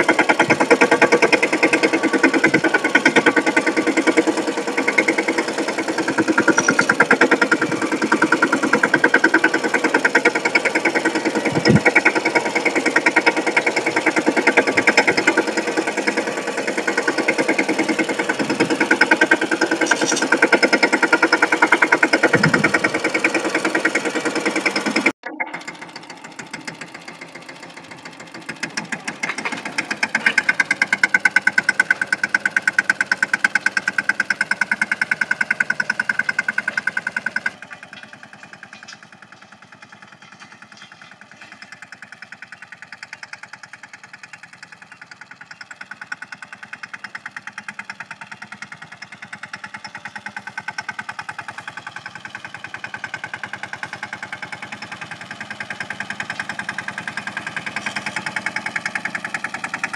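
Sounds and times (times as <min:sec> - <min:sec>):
tractor diesel engine chugging: 0:00.0 - 0:59.9.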